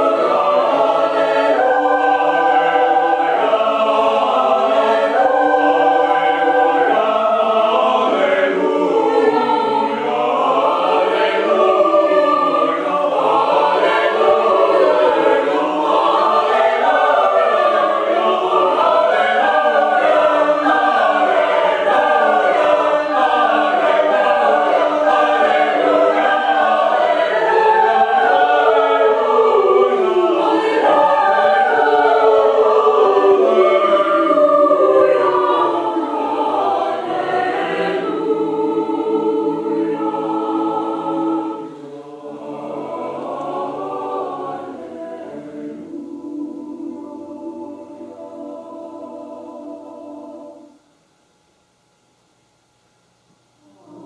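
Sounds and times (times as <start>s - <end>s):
choir singing: 0.0s - 50.8s, 53.6s - 54.0s.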